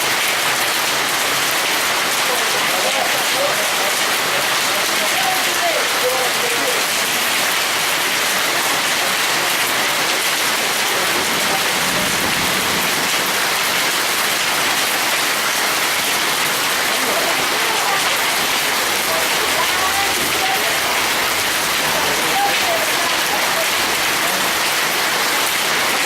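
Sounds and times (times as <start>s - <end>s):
heavy hail and rain pelting: 0.0s - 26.0s.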